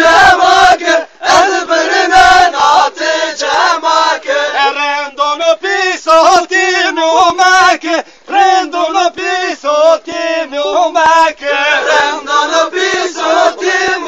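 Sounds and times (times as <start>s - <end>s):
men singing a dance song: 0.0s - 14.0s.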